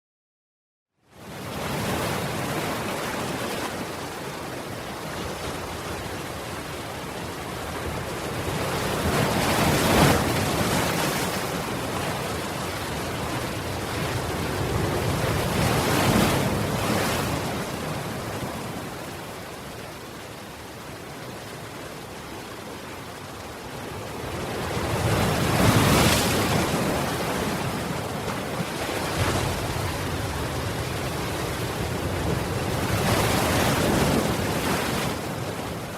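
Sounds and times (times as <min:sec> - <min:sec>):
waves washing onto stony shore: 0:01.2 - 0:35.9.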